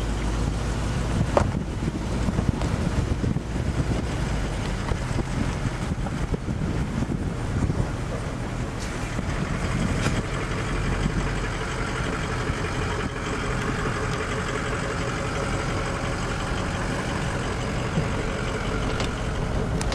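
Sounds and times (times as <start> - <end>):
truck engine running: 0.0 - 19.9.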